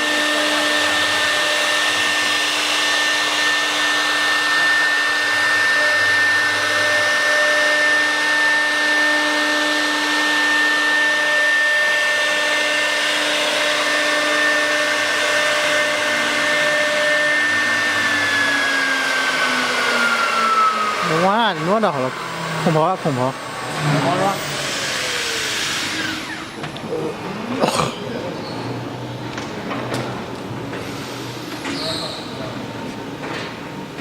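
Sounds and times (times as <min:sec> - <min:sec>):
router spindle high whine: 0:00.0 - 0:33.2.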